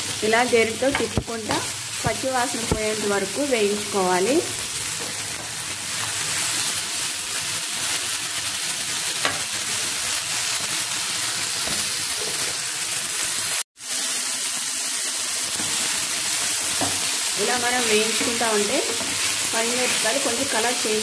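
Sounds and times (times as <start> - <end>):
chillies sizzling in hot oil: 0.0 - 21.0.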